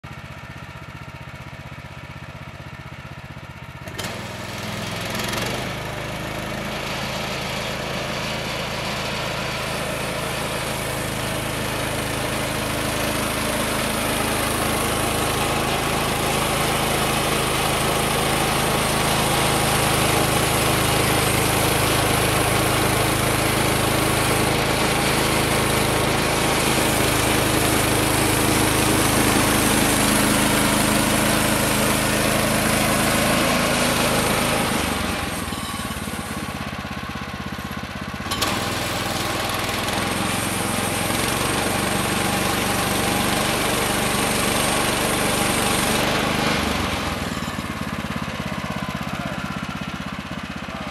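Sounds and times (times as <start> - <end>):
gas engine revving: 3.8 - 50.9.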